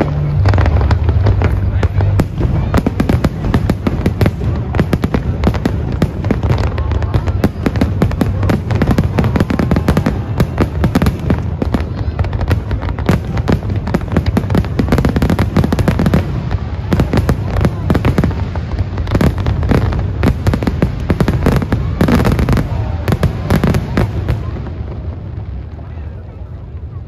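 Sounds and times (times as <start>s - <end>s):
deep rumble: 0.0s - 27.0s
fireworks bursting: 0.0s - 27.0s.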